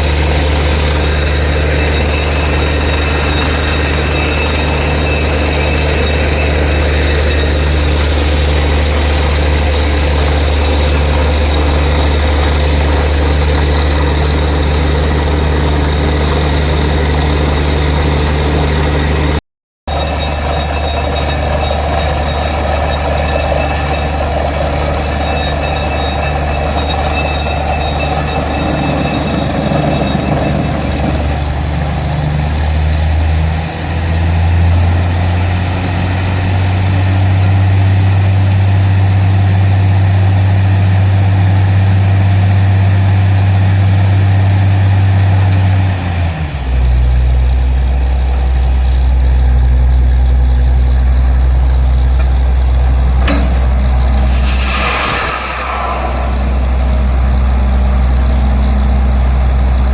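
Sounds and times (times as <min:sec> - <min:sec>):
drilling rig engine humming: 0:00.0 - 0:59.9.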